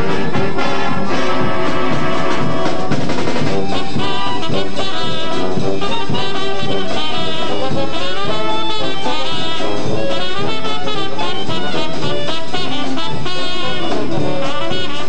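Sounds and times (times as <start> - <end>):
drums: 0.0 - 15.0
marching band playing: 0.0 - 15.0.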